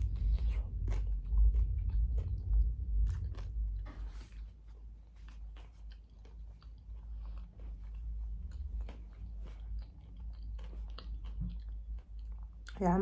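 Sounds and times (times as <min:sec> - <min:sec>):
person chewing crunchy food: 0:00.0 - 0:12.8.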